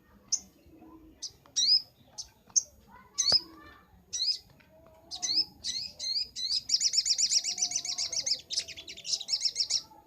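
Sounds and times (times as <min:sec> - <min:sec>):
sunbird chirping and trilling: 0:00.0 - 0:10.0.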